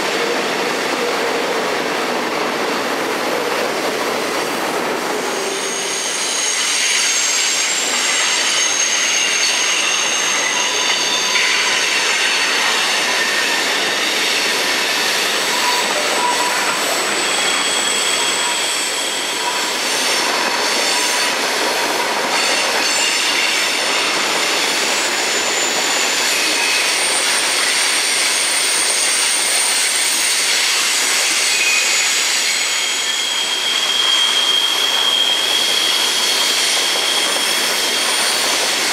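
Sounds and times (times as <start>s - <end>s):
freight train rolling past: 0.0s - 38.9s
high wheel squealing: 5.2s - 38.9s.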